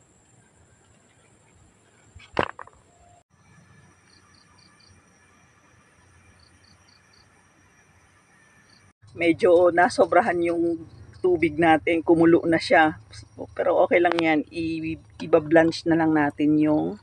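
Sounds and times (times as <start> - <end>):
faint cricket chirping: 2.9 - 17.0.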